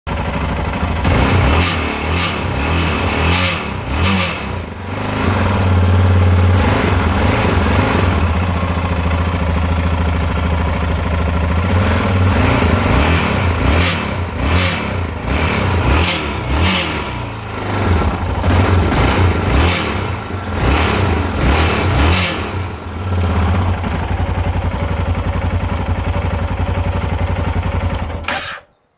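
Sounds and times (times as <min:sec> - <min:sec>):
motorcycle engine running: 0:00.1 - 0:28.4
engine grinding rattle: 0:00.1 - 0:28.6.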